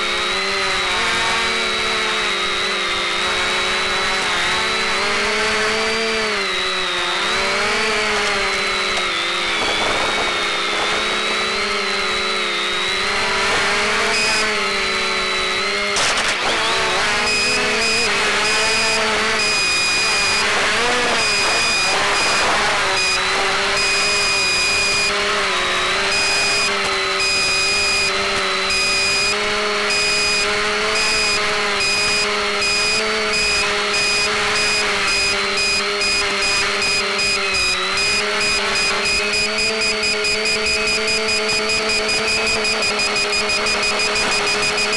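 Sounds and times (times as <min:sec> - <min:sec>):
drone propellers whining: 0:00.0 - 0:44.9
high electronic tone pulses: 0:01.4 - 0:44.9.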